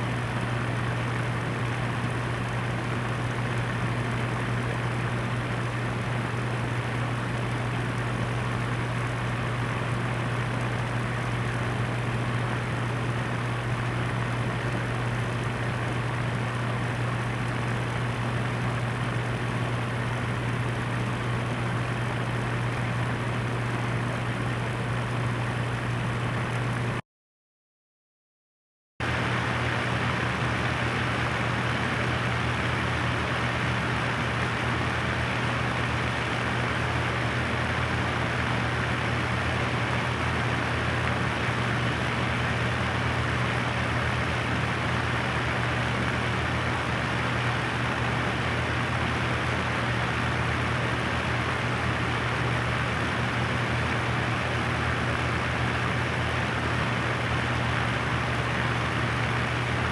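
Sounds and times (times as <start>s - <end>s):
electric fan running: 0.0s - 27.0s, 29.0s - 59.9s.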